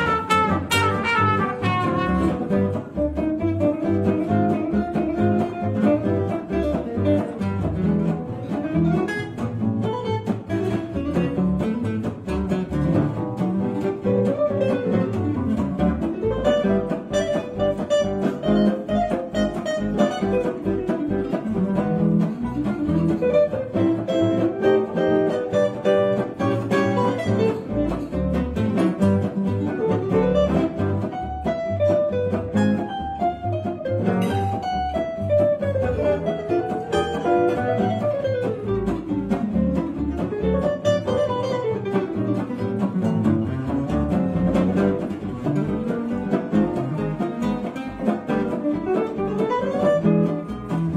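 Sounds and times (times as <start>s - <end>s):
acoustic guitar solo: 0.0s - 50.9s
double bass: 0.0s - 50.9s
strummed rhythm guitars: 0.0s - 50.9s.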